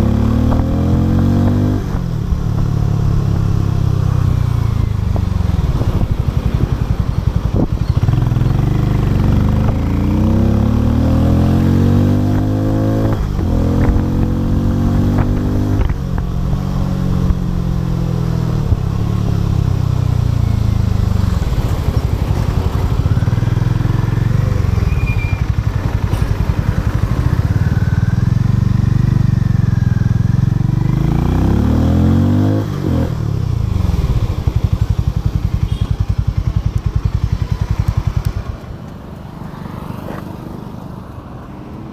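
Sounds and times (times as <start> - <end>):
motorcycle engine running: 0.0 - 40.5.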